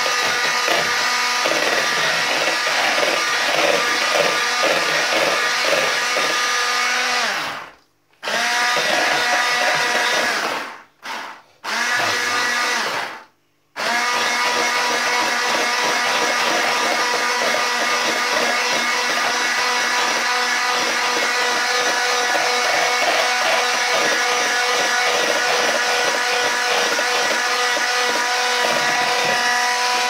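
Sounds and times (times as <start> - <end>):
electric hand blender whirring: 0.0 - 30.0.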